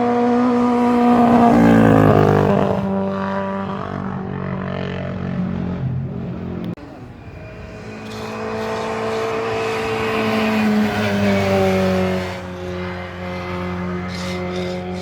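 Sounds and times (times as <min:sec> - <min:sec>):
racing car passing at speed: 0:00.0 - 0:15.0.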